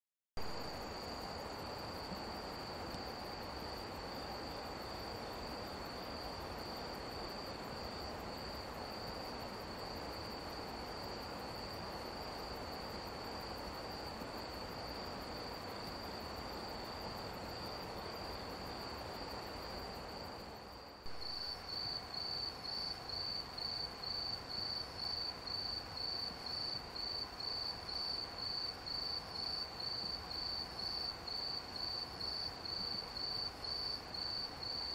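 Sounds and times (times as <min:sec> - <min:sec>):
background hiss: 0:00.4 - 0:34.9
crickets chirping: 0:00.4 - 0:34.9
cricket chirping in pulses: 0:00.5 - 0:34.9.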